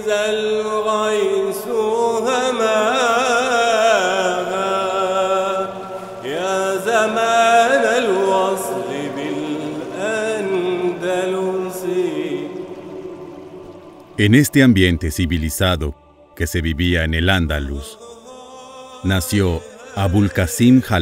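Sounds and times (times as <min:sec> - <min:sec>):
low drone: 0:00.0 - 0:21.0
solo voice chanting: 0:00.0 - 0:21.0.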